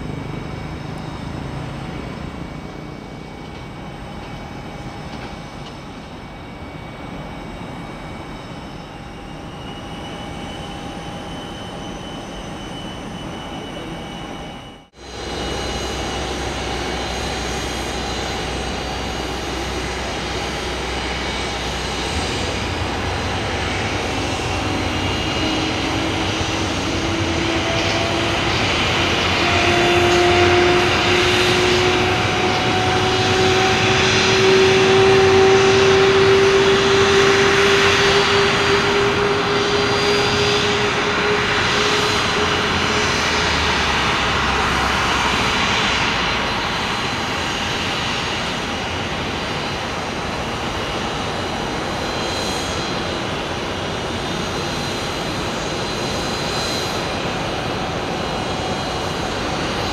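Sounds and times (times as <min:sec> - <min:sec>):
jet engine starting up: 0:00.0 - 0:59.9.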